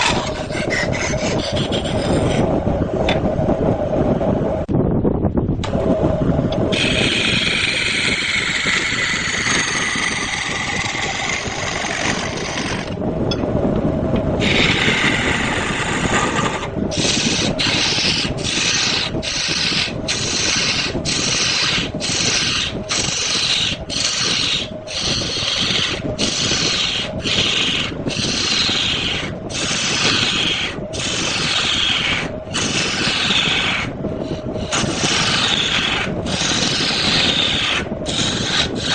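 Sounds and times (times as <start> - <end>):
hand tool scraping spinning wood: 0.0 - 3.2, 6.5 - 13.0, 14.4 - 38.9
wood lathe rumbling: 0.0 - 4.6, 5.5 - 38.9.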